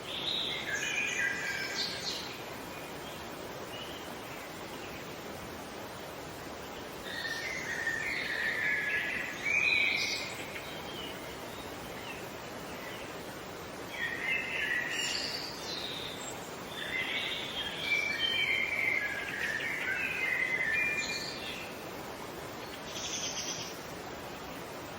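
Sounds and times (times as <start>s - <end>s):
outdoor background hiss: 0.0s - 24.9s.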